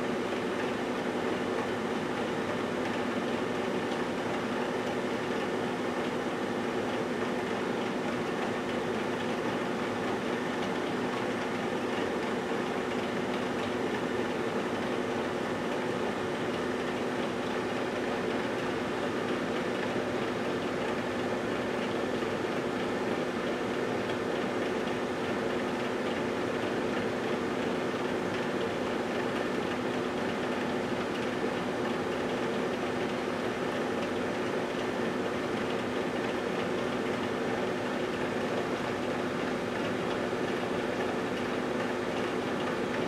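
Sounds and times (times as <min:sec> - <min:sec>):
microwave oven humming: 0:00.0 - 0:43.0.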